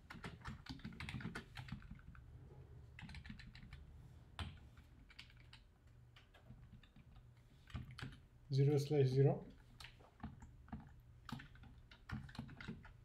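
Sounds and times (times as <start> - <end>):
faint keyboard typing: 0.0 - 2.3, 2.9 - 8.8, 9.4 - 13.0.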